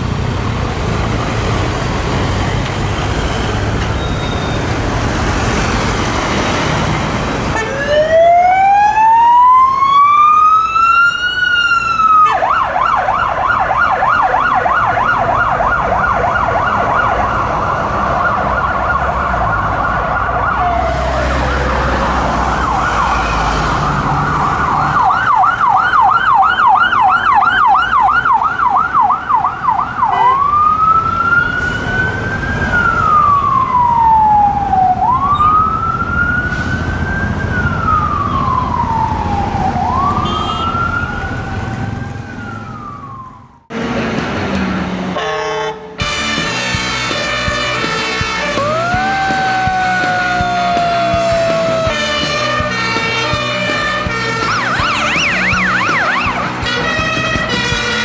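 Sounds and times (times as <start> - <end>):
city traffic: 0.0 - 58.0
emergency siren wailing and yelping: 7.5 - 43.7, 46.8 - 58.0.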